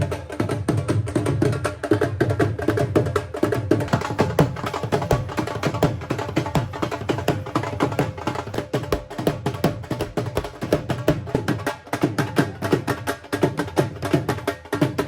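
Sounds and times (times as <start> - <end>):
fast hand percussion music: 0.0 - 15.0.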